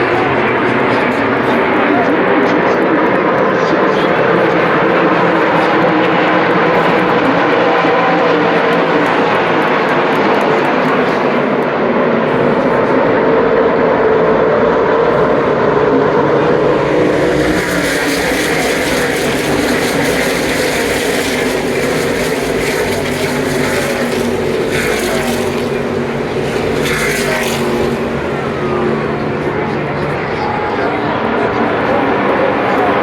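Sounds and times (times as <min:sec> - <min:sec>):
race car engines droning: 0:00.0 - 0:33.0.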